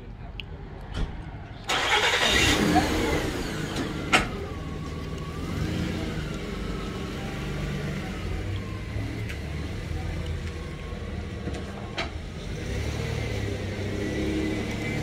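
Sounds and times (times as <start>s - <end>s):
vehicle engine hum with whine: 2.3s - 15.0s.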